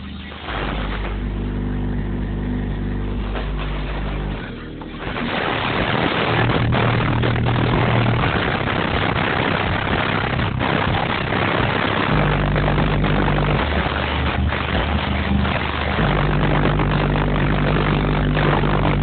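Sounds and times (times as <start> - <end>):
distorted bass-heavy song: 0.0 - 19.0.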